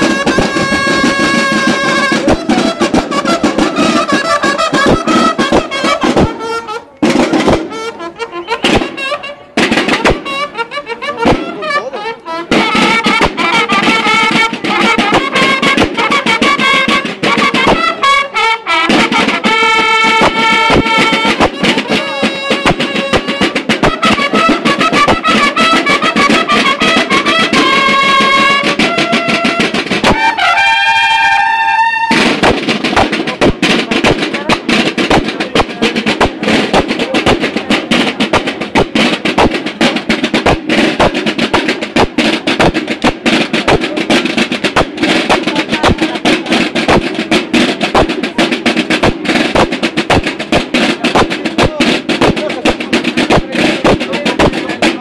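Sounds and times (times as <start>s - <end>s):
bugles playing fanfare: 0.0s - 55.0s
snare and bass drums: 0.0s - 55.0s.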